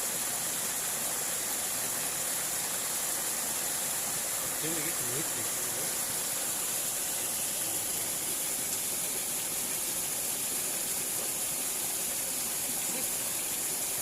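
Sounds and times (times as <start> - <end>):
water flowing in a ditch: 0.0 - 14.0.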